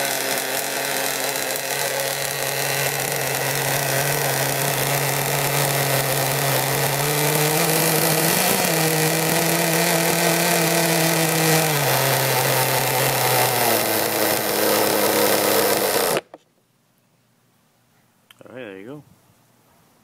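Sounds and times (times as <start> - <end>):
small model boat engine buzzing: 0.0 - 16.3.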